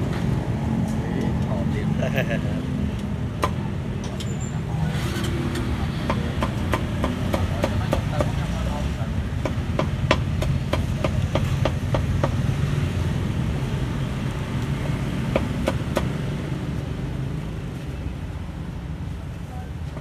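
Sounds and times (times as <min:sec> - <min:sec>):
low hum of street traffic: 0:00.0 - 0:20.0.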